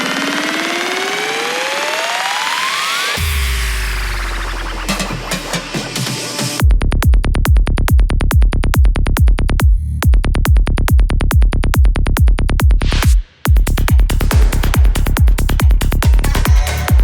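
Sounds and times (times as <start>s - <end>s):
fast electronic dance music: 0.0s - 17.0s.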